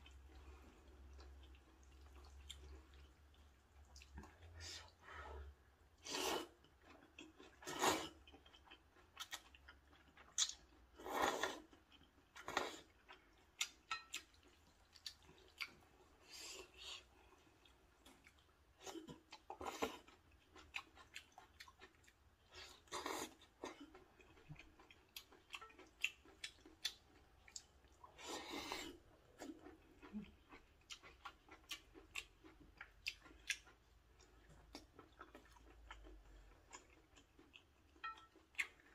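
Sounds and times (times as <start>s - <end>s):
soft chewing: 0.0s - 38.9s.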